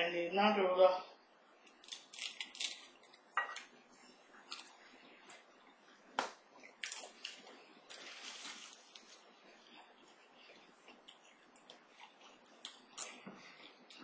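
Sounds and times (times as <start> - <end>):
nachos crunching while chewed: 1.6 - 14.0.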